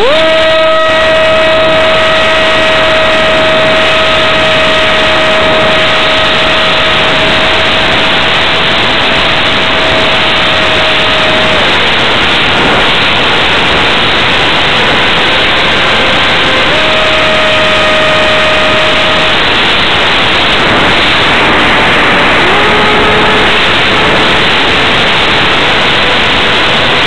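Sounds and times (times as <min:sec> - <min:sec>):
electric motor whine: 0:00.0 - 0:27.0
wind rush on microphone: 0:00.0 - 0:27.0.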